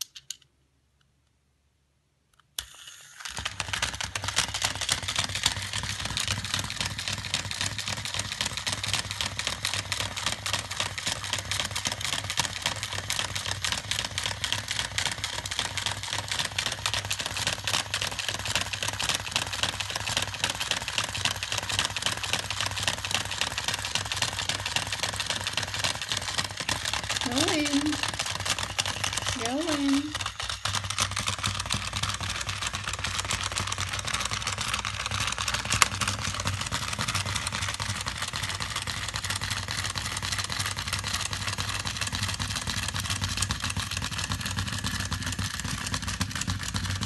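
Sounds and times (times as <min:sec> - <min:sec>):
toy motor clicking rattle: 0:02.6 - 0:47.0.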